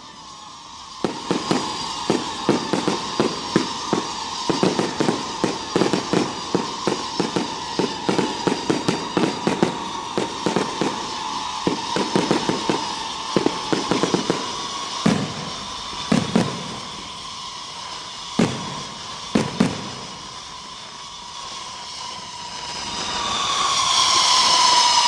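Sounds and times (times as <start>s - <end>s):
fireworks bangs: 1.0s - 21.6s.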